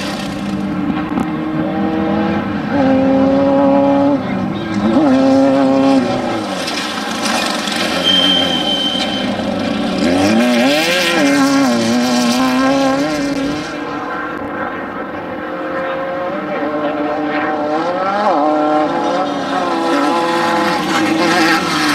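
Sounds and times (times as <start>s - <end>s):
engine revving high: 0.0s - 6.6s, 7.8s - 21.9s.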